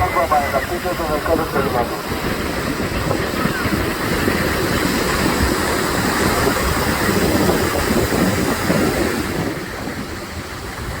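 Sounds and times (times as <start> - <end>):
surf washing on shore: 0.0 - 11.0
wind rumbling on microphone: 0.0 - 11.0.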